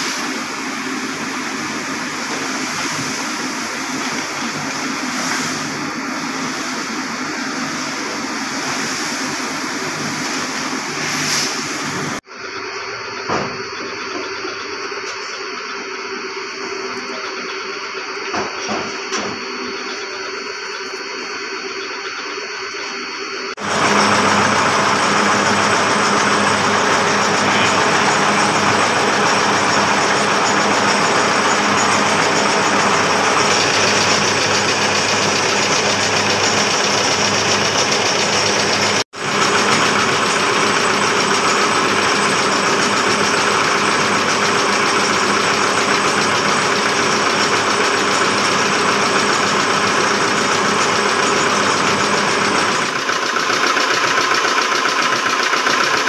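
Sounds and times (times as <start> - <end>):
blow-moulding machine running: 0.0 - 56.0
even machine hum: 0.0 - 56.0.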